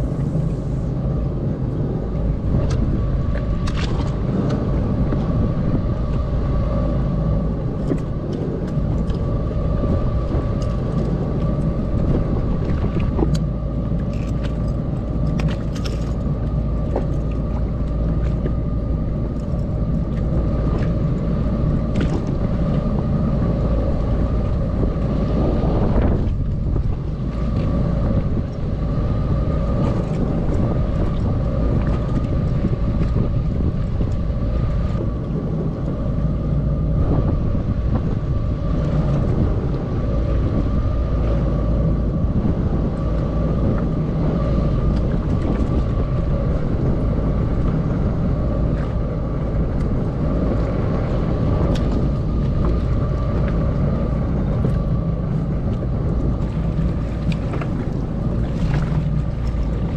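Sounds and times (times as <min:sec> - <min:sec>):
jet ski engine running: 0:00.0 - 0:59.9
wind and water rumble: 0:00.0 - 0:59.9.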